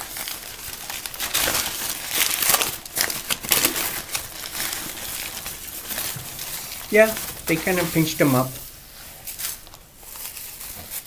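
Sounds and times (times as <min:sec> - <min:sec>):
newspaper crinkling and rustling: 0:00.0 - 0:11.0.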